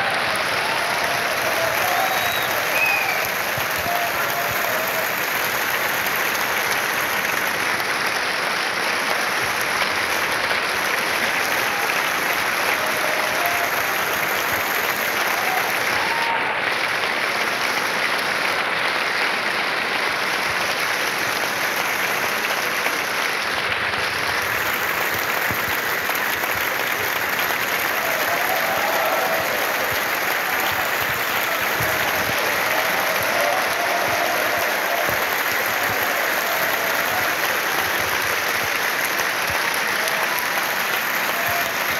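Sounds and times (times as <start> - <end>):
audience applauding: 0.0 - 41.9.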